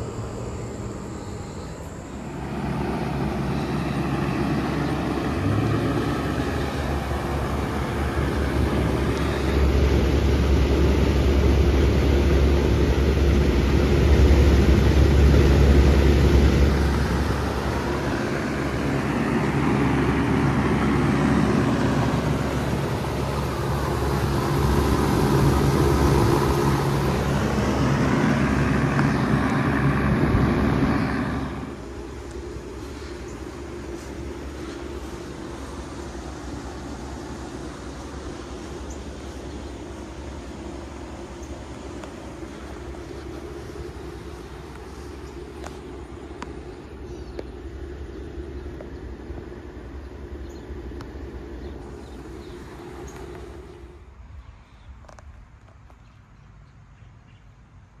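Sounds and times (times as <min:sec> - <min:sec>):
air conditioner units humming: 0:00.0 - 0:55.5.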